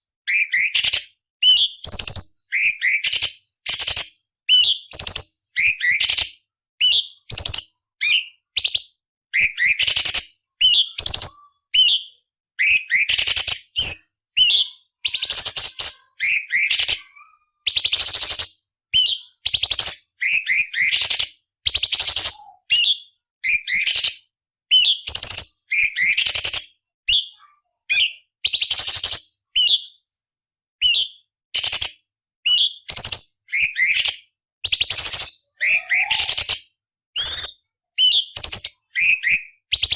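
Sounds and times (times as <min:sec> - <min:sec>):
bird song whistles and rasps: 0:00.1 - 0:39.9.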